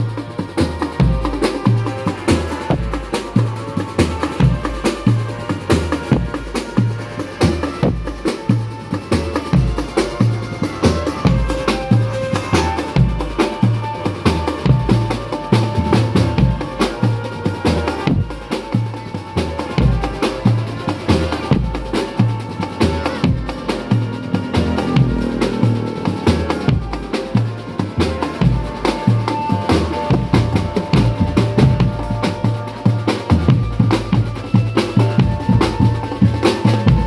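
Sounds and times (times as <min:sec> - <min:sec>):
fast snare drum strokes: 0:00.0 - 0:37.0
held melody notes: 0:00.0 - 0:37.0
bass drums beating: 0:00.9 - 0:37.0.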